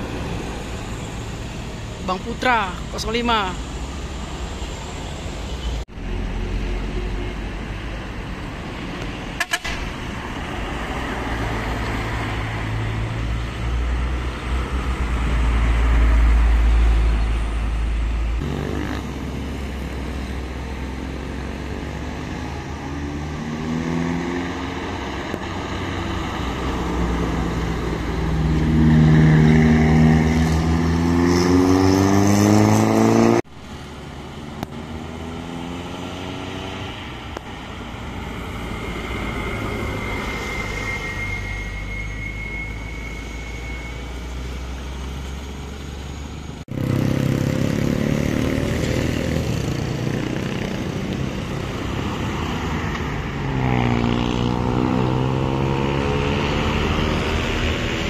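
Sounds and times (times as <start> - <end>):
engines pulling hard uphill: 0.0 - 41.1, 42.7 - 58.0.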